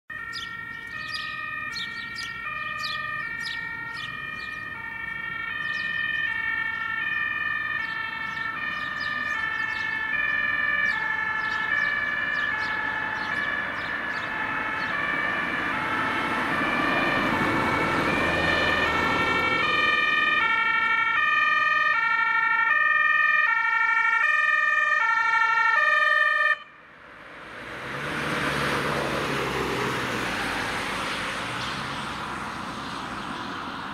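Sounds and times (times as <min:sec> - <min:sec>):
two-tone emergency siren: 0:00.1 - 0:33.9
van engine and tyre noise: 0:00.1 - 0:33.9.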